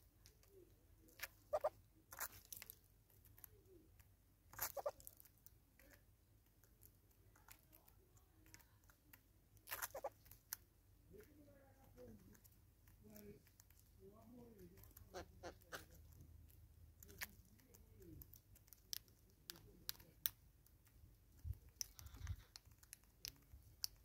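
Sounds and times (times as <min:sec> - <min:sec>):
bird bills clicking and crunching: 0:00.0 - 0:24.0.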